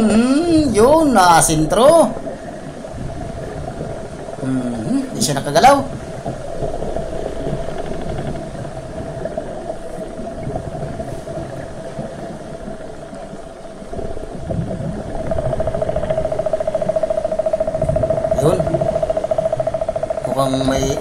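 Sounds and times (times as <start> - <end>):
steady mid-pitched hum: 0.0 - 21.0
underwater low rumble: 0.0 - 21.0.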